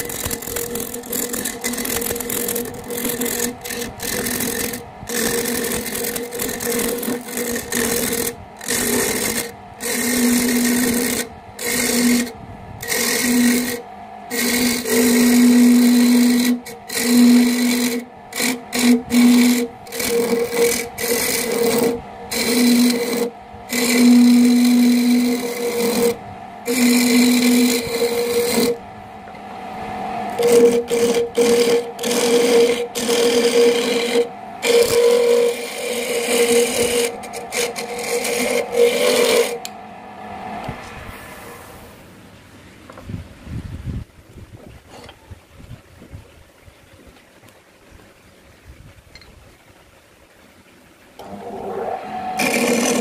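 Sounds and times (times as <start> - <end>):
wood lathe motor humming: 0.0 - 40.9, 51.2 - 53.0
chisel scraping spinning wood: 0.0 - 41.0, 51.2 - 53.0.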